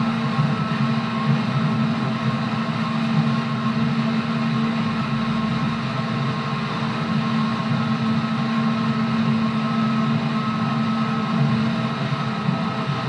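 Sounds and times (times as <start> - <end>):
electric train motor hum: 0.0 - 13.0
faint high whine: 0.0 - 13.0.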